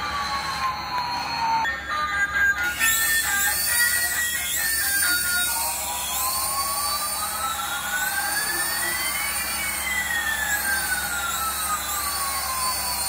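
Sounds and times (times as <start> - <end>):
sweeping synth tones: 0.0 - 13.0.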